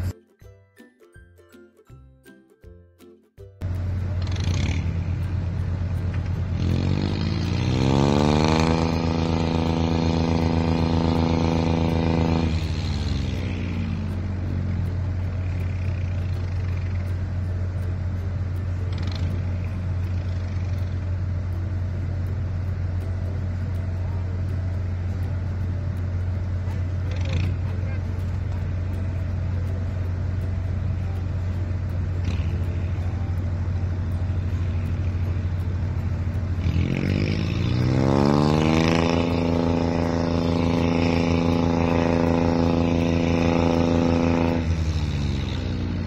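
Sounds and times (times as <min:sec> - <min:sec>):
low machinery hum: 0:03.6 - 0:46.0
motor revving: 0:03.7 - 0:46.0.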